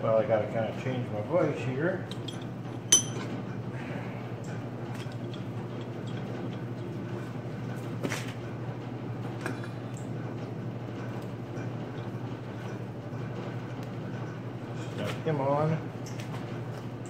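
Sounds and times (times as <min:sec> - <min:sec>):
low hum of shop machinery: 0:00.0 - 0:17.0.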